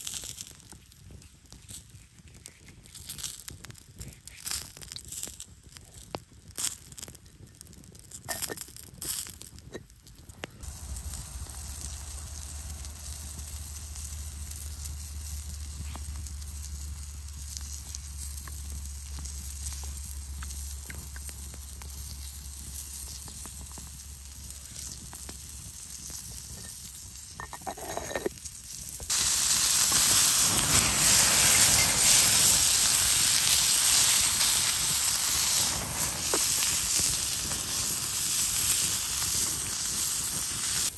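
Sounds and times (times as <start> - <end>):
sausage sizzling on grill pan: 0.0 - 40.9
wood fire crackling: 0.0 - 40.9.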